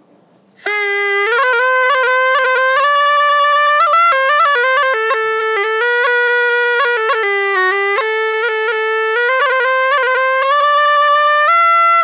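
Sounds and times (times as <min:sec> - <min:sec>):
reedy shawm melody: 0:00.6 - 0:12.0.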